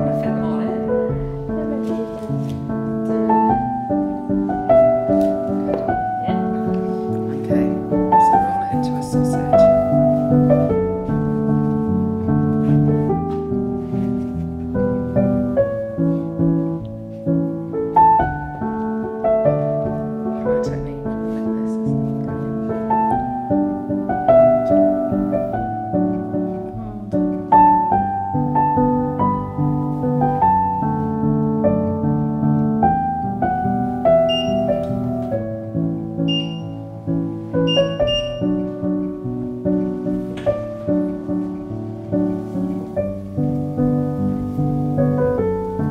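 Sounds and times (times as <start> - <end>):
gentle piano music: 0.0 - 45.9.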